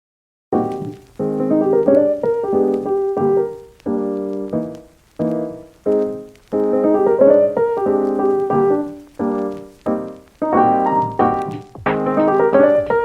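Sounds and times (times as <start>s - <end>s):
piano chords: 0.6s - 13.0s.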